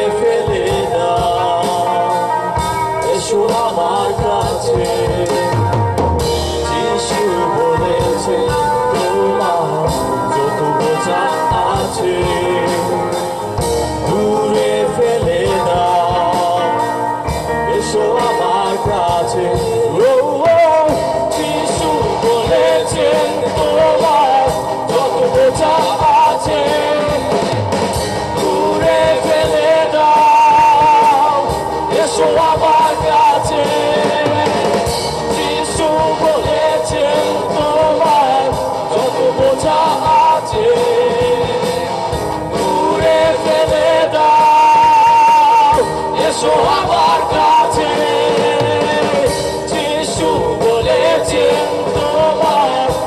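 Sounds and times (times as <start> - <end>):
drums: 0.0 - 53.0
electric guitars: 0.0 - 53.0
keyboard: 0.0 - 53.0
man singing: 0.0 - 53.0.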